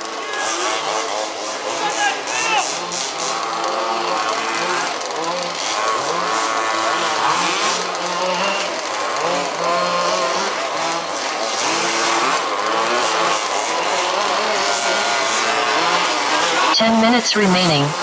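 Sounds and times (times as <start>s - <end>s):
small engines whining while racing: 0.0s - 18.0s.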